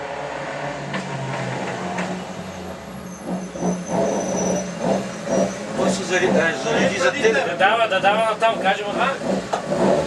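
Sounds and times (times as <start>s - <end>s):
race car engine passing: 0.0s - 10.0s.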